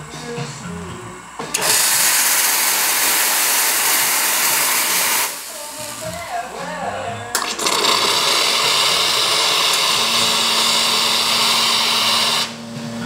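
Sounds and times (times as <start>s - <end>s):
steam wand hissing: 1.1s - 13.0s.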